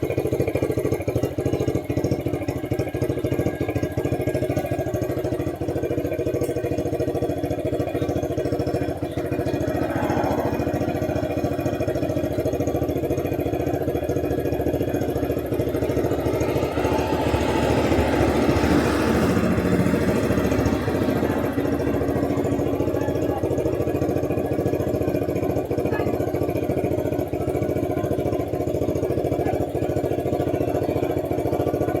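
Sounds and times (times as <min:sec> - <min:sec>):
sport bike engine idling: 0:00.0 - 0:32.0.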